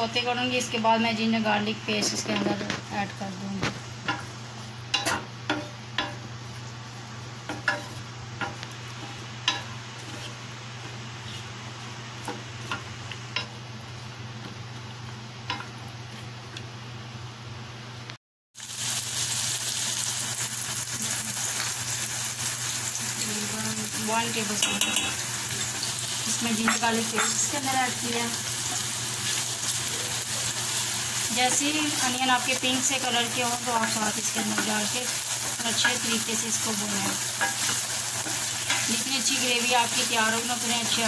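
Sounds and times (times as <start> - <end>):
onions sizzling in a pan: 0.0 - 16.5, 18.6 - 41.0.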